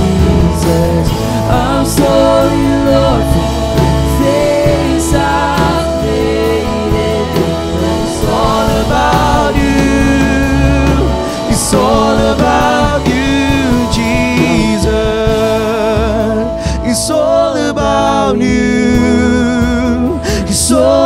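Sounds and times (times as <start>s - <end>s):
sustained bass notes: 0.0s - 21.0s
worship song singing: 0.0s - 21.0s.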